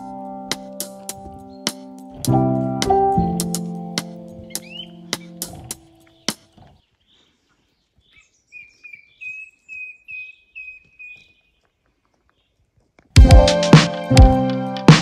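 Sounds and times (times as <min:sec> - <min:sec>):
songbird singing: 0:00.0 - 0:12.9.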